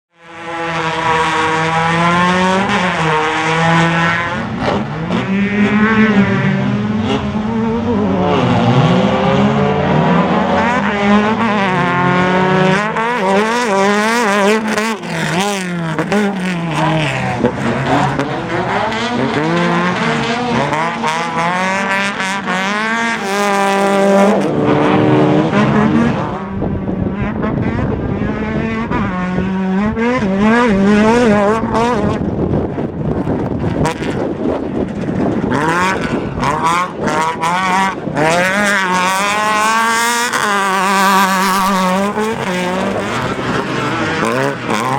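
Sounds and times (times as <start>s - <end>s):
race car engine revving: 0.2s - 44.9s.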